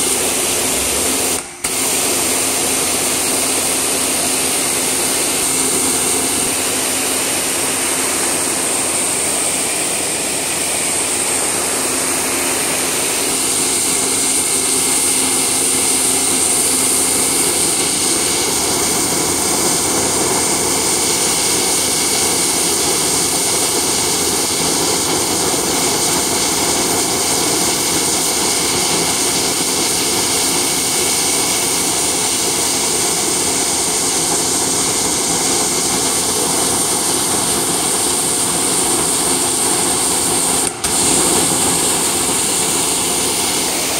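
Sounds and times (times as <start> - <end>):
pressure washer drone: 0.0 - 43.9
water jet spraying on concrete: 0.0 - 43.9.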